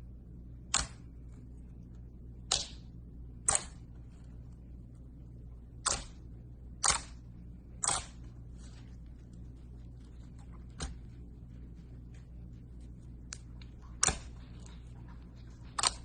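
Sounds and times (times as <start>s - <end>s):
steady low hum: 0.0s - 16.0s
sharp crackling snaps: 0.7s - 1.2s, 1.8s - 4.7s, 5.8s - 16.0s.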